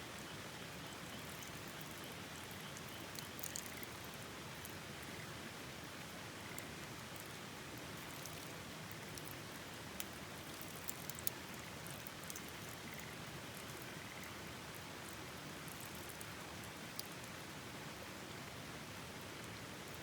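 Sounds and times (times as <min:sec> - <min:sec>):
rain: 0:00.0 - 0:20.0.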